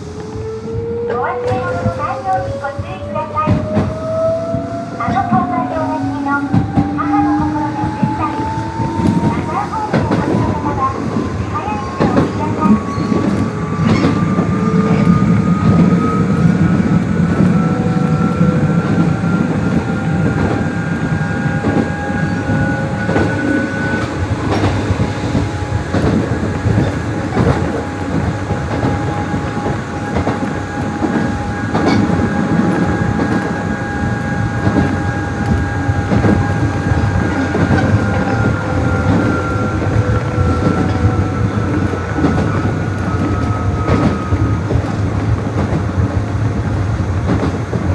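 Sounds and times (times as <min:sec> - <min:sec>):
train running rumble: 0:00.0 - 0:47.9
train motors whining: 0:01.2 - 0:47.0.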